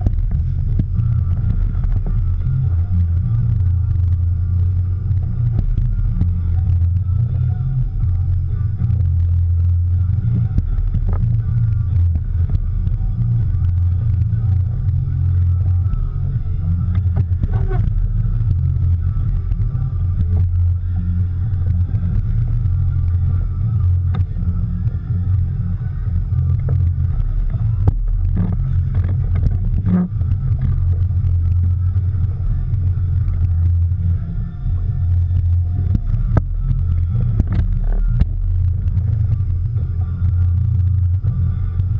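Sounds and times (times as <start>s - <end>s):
boat engine drone: 0.0s - 41.9s
wind across microphone: 0.0s - 41.9s.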